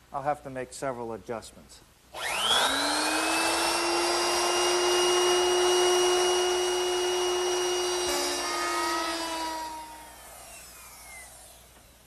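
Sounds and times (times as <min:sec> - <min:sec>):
wood router high whine: 0:02.2 - 0:12.0.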